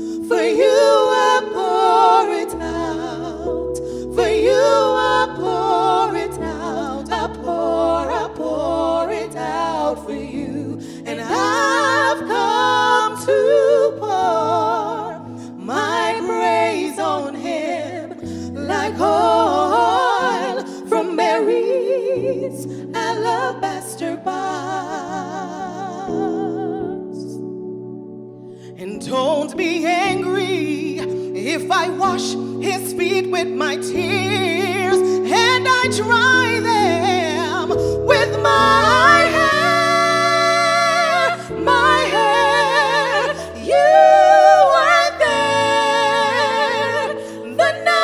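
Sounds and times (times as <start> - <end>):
women singing gospel: 0.0 - 27.5, 28.8 - 48.0.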